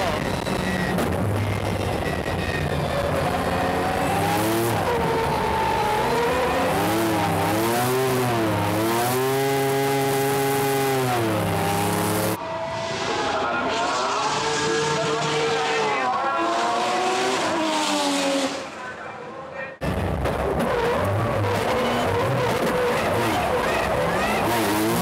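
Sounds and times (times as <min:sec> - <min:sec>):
race car engine revving: 0:00.0 - 0:19.0, 0:19.8 - 0:25.0.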